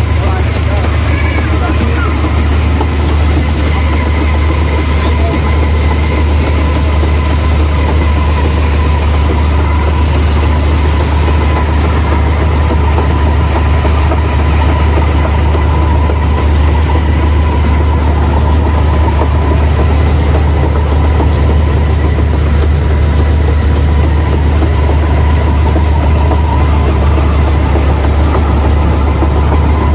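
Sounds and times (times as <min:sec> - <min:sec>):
diesel engine drone: 0:00.0 - 0:29.9
machinery whine: 0:00.0 - 0:29.9.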